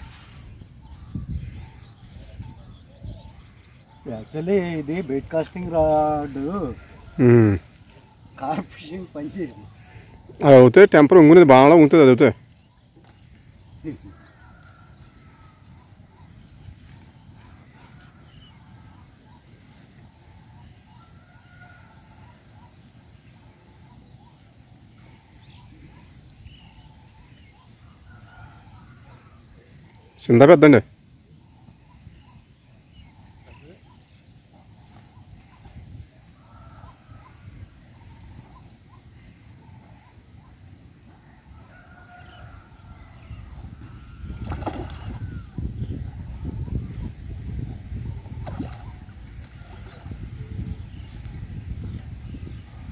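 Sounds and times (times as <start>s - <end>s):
distant bird calls: 0.0s - 52.9s.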